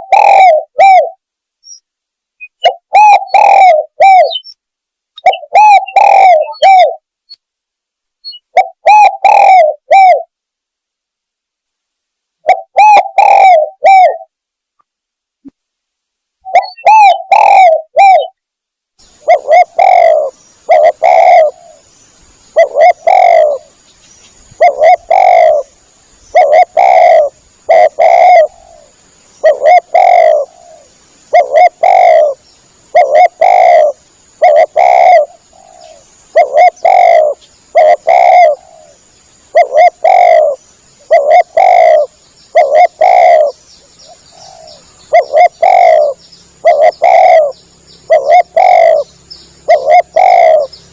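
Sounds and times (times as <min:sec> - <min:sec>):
dove cooing: 0:00.0 - 0:01.2, 0:02.5 - 0:04.5, 0:05.2 - 0:07.0, 0:08.3 - 0:10.3, 0:12.4 - 0:14.3, 0:16.5 - 0:18.4, 0:19.0 - 0:21.9, 0:22.5 - 0:23.8, 0:24.5 - 0:50.9.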